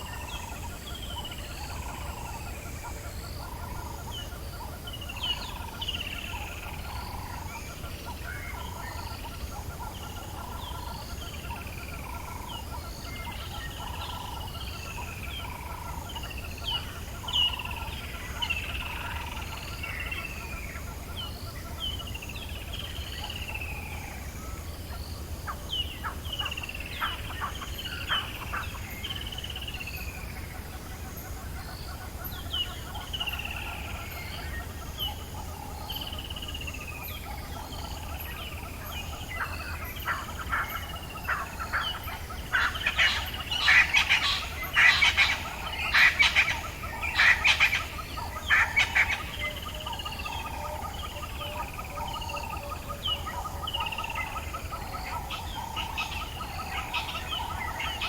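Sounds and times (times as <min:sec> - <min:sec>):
pulsing trill of frogs or insects: 0:00.0 - 0:58.0.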